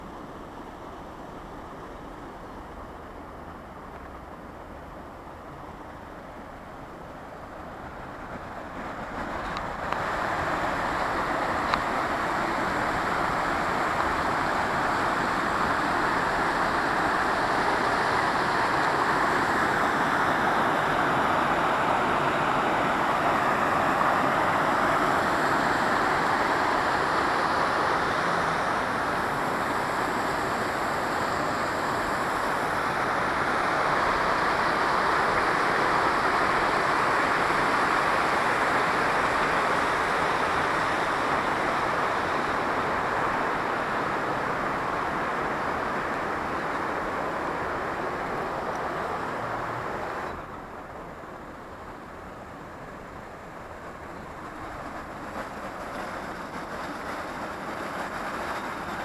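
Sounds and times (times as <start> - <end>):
waterfall rushing: 7.8 - 59.0.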